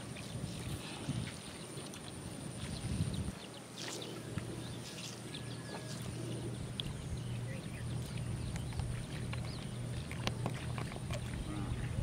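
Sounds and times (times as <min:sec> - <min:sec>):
wildlife chirps and clicks: 0:00.0 - 0:12.0.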